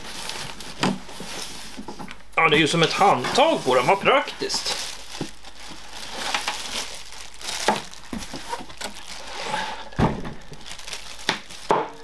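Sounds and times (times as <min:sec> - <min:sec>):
plastic wrapping rustling and crinkling: 0:00.0 - 0:12.0.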